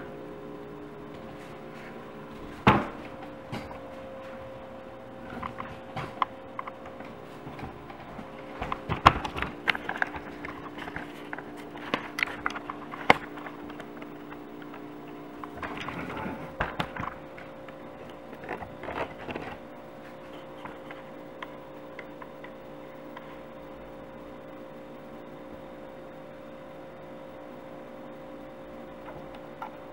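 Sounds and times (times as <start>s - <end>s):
steady room hum: 0.0s - 29.9s.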